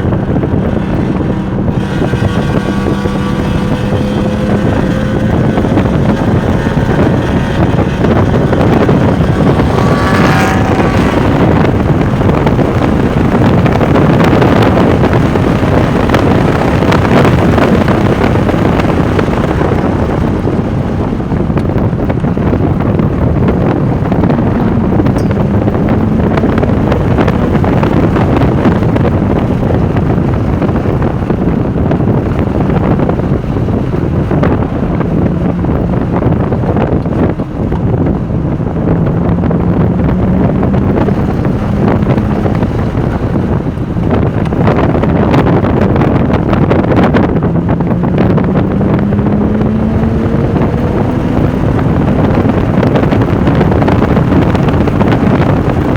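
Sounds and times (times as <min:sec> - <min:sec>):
car engine running at speed: 0:00.0 - 0:55.9
wind buffeting microphone: 0:00.0 - 0:55.9.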